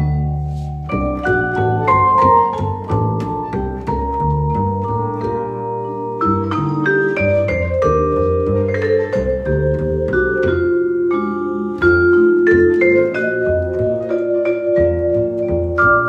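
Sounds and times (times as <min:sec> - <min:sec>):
plucked upright bass: 0:00.0 - 0:16.0
vibraphone notes: 0:00.0 - 0:16.0.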